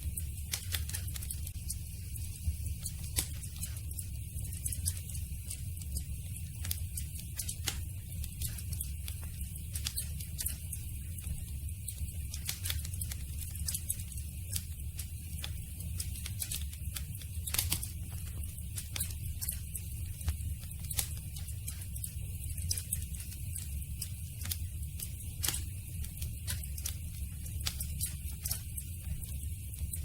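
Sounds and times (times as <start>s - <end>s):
low rumble of fire: 0.0s - 30.0s
campfire crackling and popping: 2.2s - 30.0s.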